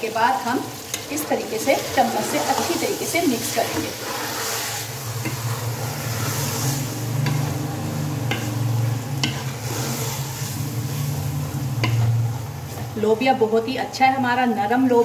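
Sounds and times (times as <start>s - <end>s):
oil sizzling: 0.0s - 15.0s
metal spoon stirring food: 0.8s - 12.9s.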